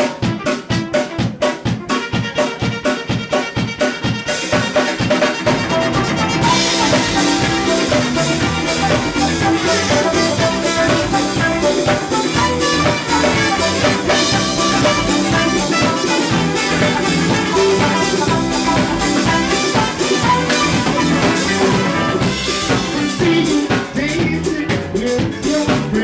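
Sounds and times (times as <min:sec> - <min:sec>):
live band playing: 0:00.0 - 0:26.0
steady drum beat: 0:00.0 - 0:26.0.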